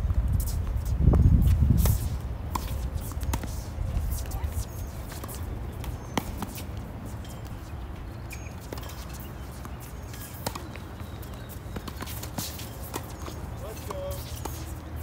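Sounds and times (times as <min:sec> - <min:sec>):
balls bouncing on hard court: 0:00.1 - 0:15.0
tennis balls struck by rackets: 0:00.4 - 0:15.0.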